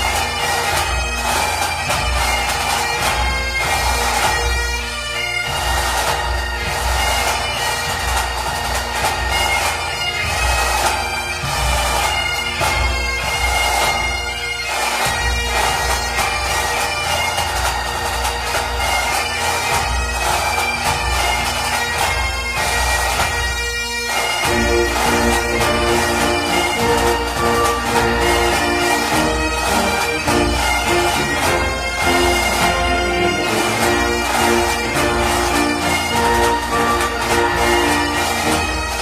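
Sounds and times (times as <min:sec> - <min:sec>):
bagpipe music: 0:00.0 - 0:39.0.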